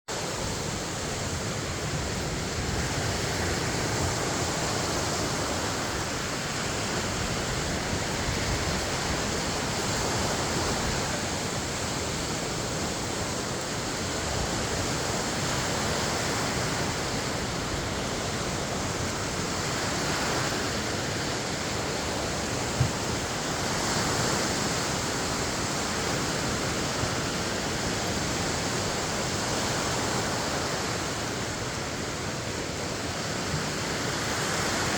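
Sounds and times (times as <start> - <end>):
waves washing against shore: 0.1 - 34.9.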